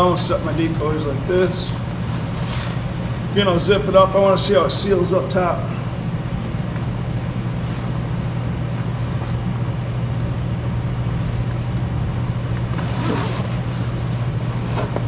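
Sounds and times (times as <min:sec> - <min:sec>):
jacket zipper and fabric rustle: 0:00.0 - 0:04.4, 0:05.8 - 0:09.6, 0:10.9 - 0:15.0
low hum: 0:00.0 - 0:15.0.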